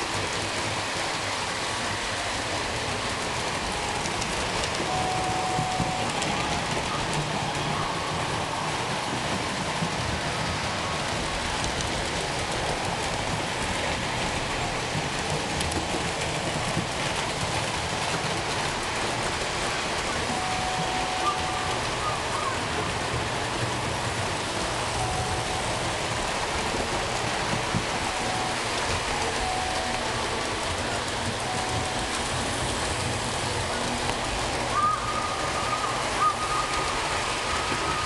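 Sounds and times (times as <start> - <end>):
model trains whirring: 0.0 - 38.0.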